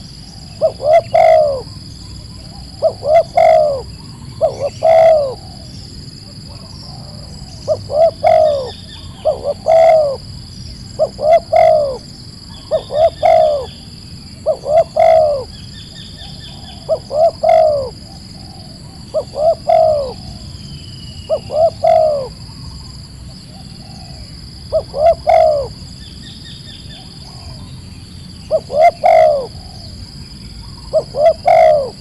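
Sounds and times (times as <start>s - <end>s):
dove cooing: 0.0s - 26.1s, 26.9s - 32.0s.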